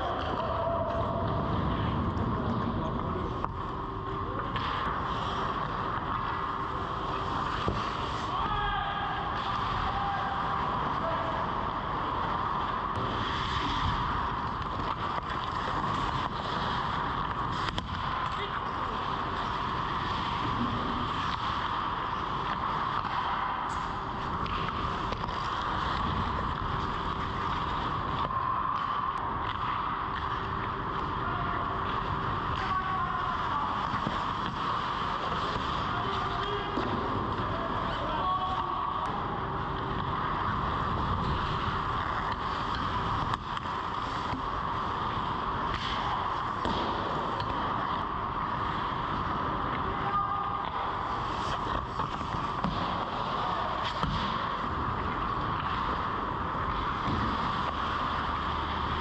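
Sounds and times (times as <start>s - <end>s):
constant hum: 0.0s - 59.0s
skates scraping ice: 0.0s - 59.0s
steady rushing noise: 0.0s - 59.0s.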